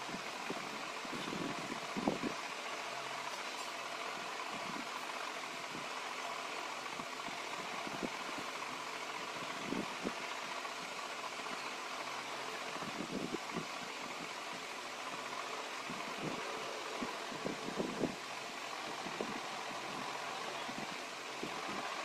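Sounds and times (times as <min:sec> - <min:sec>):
fan-like background hiss: 0:00.0 - 0:22.0.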